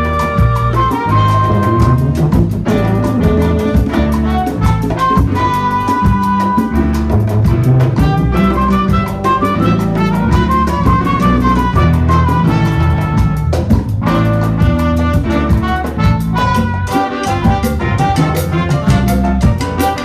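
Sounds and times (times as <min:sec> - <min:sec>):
brass and saxophone section: 0:00.0 - 0:20.0
latin percussion and drums: 0:00.0 - 0:20.0.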